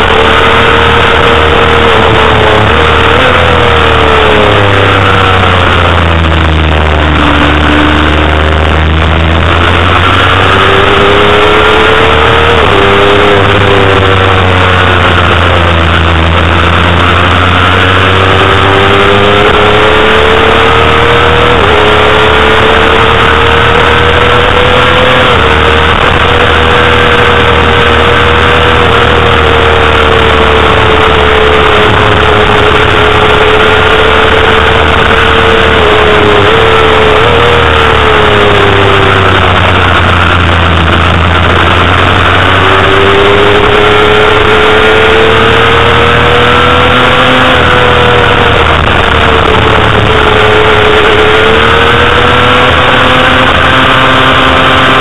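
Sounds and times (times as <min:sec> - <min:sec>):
motorcycle engine racing at high revs: 0:00.0 - 0:55.0.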